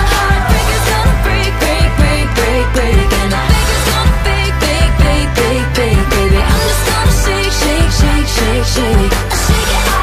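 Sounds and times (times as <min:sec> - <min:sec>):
person singing: 0:00.0 - 0:10.0
pop music with beat: 0:00.0 - 0:10.0.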